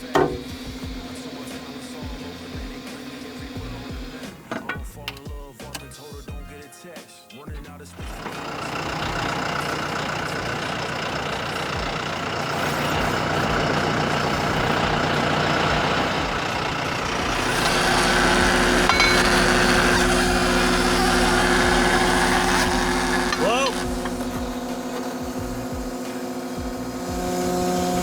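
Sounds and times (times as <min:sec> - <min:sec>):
skid steer engine running: 0:00.0 - 0:06.1, 0:07.7 - 0:28.0.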